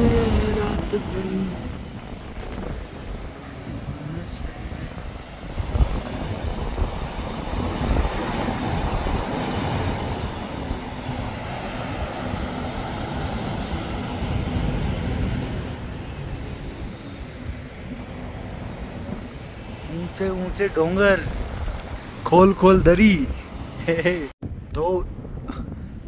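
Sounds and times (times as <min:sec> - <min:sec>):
wind rumbling on microphone: 0:00.0 - 0:26.0.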